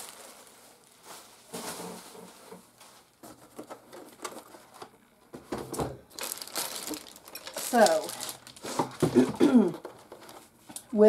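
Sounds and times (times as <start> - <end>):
cardboard and plastic packaging rustling: 0.0 - 11.0.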